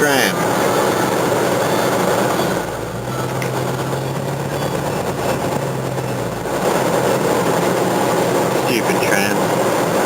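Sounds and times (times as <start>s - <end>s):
car engine idling: 0.0s - 10.0s
road and cabin noise: 0.0s - 10.0s.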